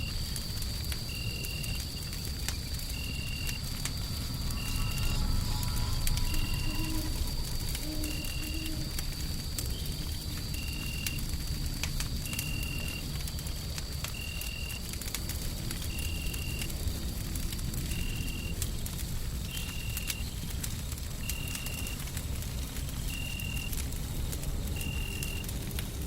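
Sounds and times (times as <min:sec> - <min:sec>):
low rumble of white noise: 0:00.0 - 0:26.0
wood fire crackling and popping: 0:00.0 - 0:26.0.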